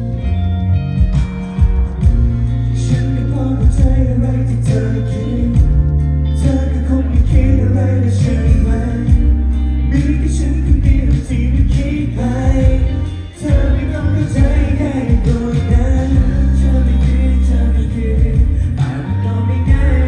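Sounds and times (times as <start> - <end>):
pop song over sound system: 0.0 - 20.0.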